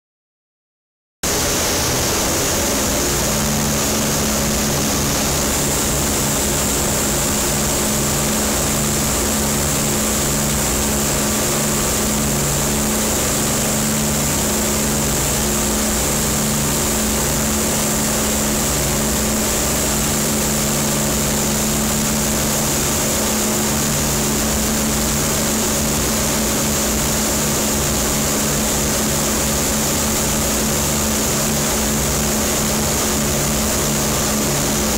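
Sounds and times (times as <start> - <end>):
aircraft engines droning in flight: 1.2 - 34.9
rush of air: 1.2 - 34.9.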